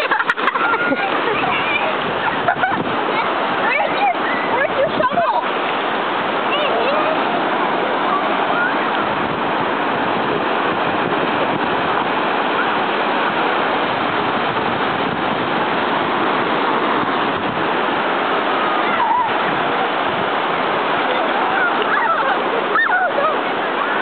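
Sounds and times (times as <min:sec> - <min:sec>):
ocean surf washing onto beach: 0:00.0 - 0:24.0.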